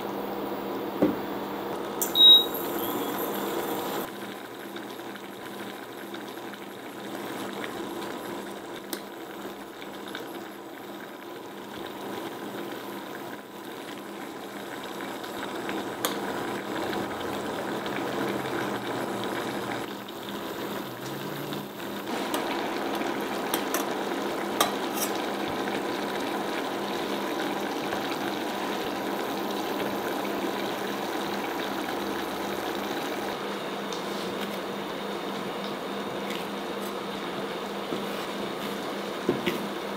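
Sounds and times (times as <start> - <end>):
water boiling in a saucepan: 0.0 - 39.9.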